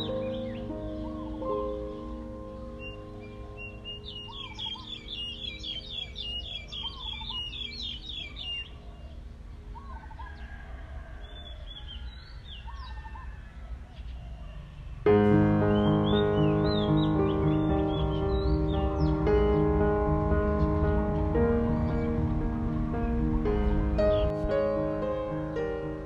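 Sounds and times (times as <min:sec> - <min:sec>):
background music with held notes: 0:00.0 - 0:10.4, 0:15.1 - 0:26.0
small birds chirping: 0:00.0 - 0:26.0.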